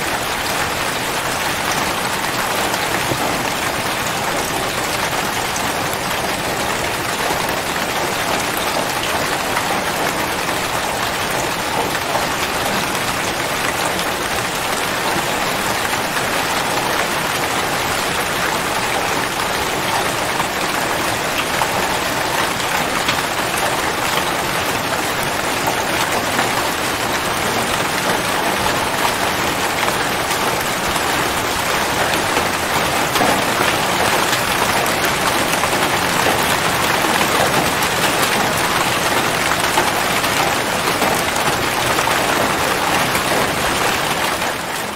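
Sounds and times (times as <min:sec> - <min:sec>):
rain falling steadily: 0:00.0 - 0:44.9.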